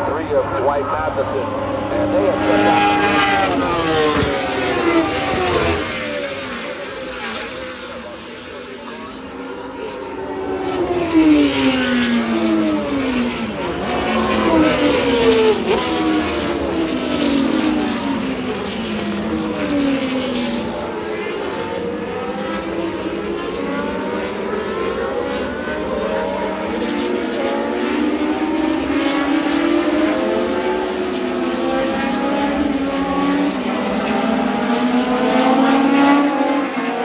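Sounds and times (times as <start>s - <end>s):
racing cars passing at speed: 0.0s - 37.0s.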